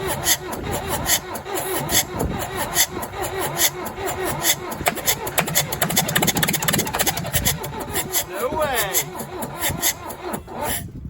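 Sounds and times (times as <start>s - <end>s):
diesel engine cranking and starting: 0.0s - 11.0s.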